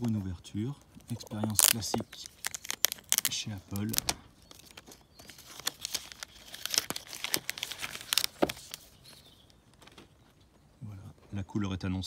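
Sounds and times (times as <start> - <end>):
plastic film crinkling: 0.0 - 10.2.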